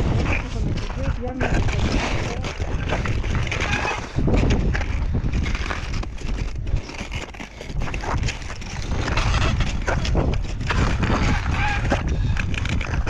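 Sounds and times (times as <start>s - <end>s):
crampon footsteps crunching on ice: 0.0s - 13.0s
wind buffeting microphone: 0.0s - 13.0s.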